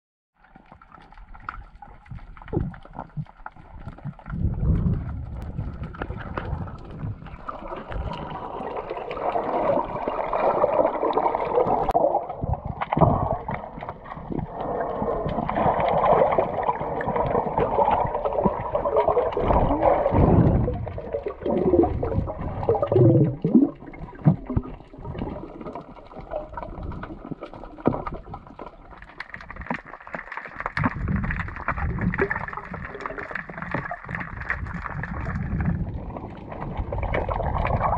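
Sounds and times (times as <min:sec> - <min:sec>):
underwater bubbling: 0:00.4 - 0:37.9
muffled underwater gurgling: 0:00.8 - 0:37.9.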